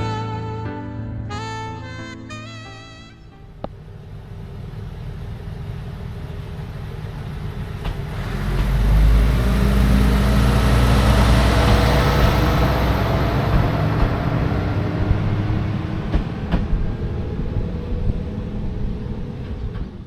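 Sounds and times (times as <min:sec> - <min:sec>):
diesel train approaching: 0:03.3 - 0:20.0.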